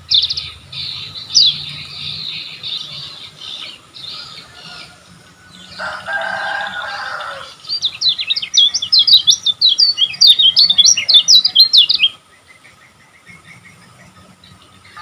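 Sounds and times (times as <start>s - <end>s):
bird high chirping notes: 0.0s - 12.4s.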